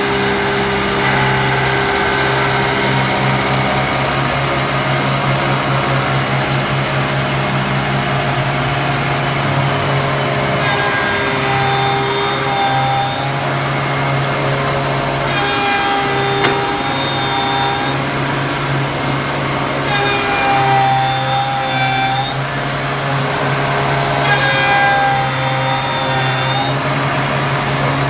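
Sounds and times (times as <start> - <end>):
lathe whine and wood cutting: 0.0 - 28.0.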